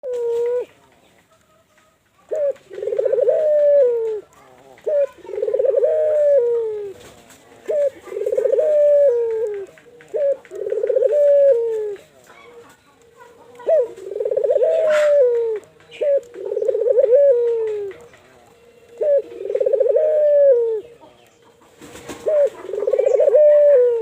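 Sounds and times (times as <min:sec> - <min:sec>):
collared dove cooing: 0:00.0 - 0:00.8, 0:02.2 - 0:18.1, 0:18.9 - 0:24.0.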